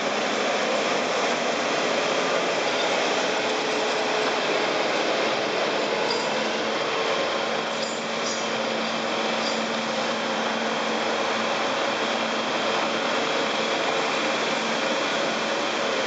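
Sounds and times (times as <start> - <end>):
loader diesel engine running: 0.0 - 16.0
steady whine: 0.0 - 16.0.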